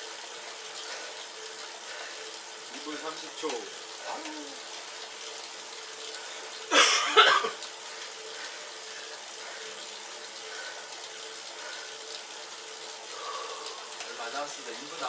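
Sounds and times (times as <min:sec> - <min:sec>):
bike trainer whirring: 0:00.0 - 0:15.0.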